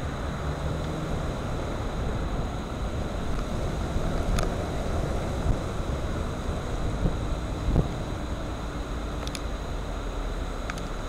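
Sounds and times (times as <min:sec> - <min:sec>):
car interior rumble: 0:00.0 - 0:11.0
wind noise on microphone: 0:00.0 - 0:11.0.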